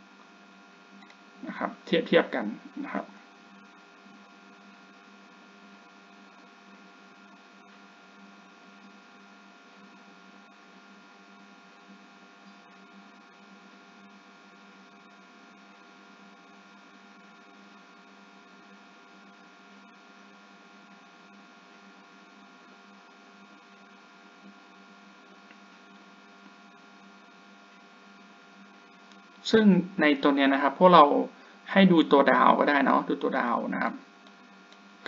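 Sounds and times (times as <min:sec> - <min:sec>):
electrical hum and hiss: 0:00.0 - 0:35.0.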